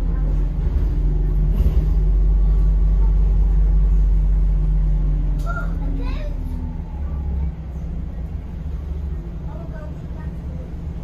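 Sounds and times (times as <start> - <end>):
bus drivetrain drone: 0.0 - 11.0.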